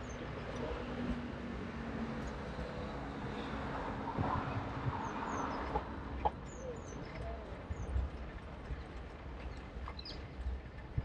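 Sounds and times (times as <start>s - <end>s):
steady wind: 0.0s - 11.0s.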